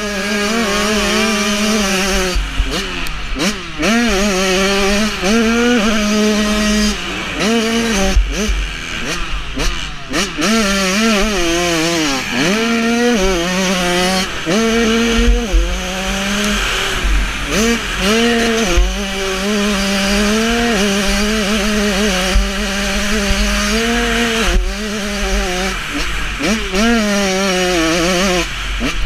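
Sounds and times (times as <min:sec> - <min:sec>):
motocross bike engine revving: 0:00.0 - 0:29.0.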